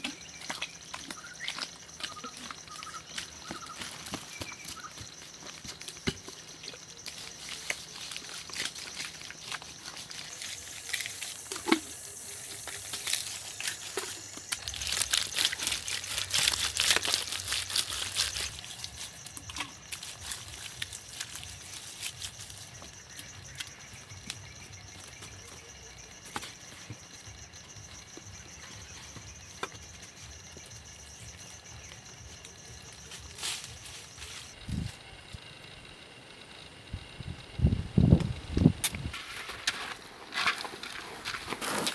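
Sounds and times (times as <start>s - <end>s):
forest insects droning: 0.0s - 41.9s.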